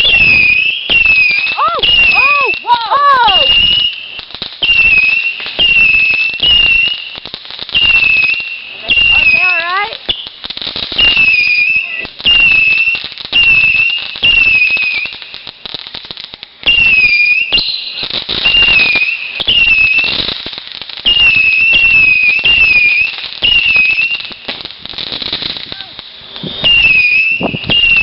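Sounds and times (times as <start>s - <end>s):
fireworks crackling: 0.0s - 28.0s
fireworks whistling: 0.0s - 28.0s.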